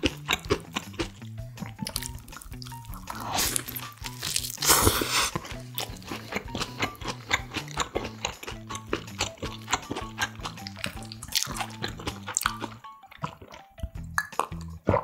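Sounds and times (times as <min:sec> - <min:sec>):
chewing: 0:00.0 - 0:15.0
soft background music: 0:00.0 - 0:15.0
crunch of toasted bread: 0:00.1 - 0:12.8.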